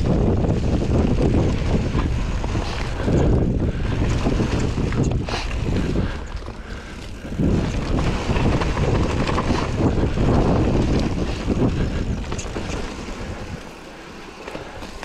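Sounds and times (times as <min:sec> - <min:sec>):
wind on microphone: 0:00.0 - 0:13.8
tyres rumbling over dirt: 0:00.0 - 0:15.0
bike clicks and knocks: 0:00.1 - 0:15.0.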